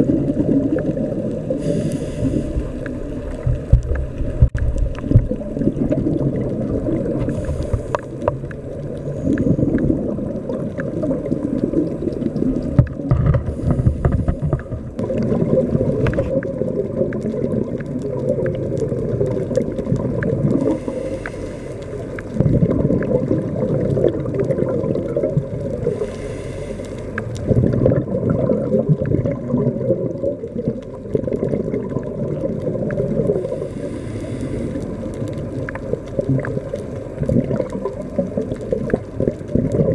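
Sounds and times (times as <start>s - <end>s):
diver exhaling bubbles underwater: 0.0s - 26.4s, 27.1s - 39.9s.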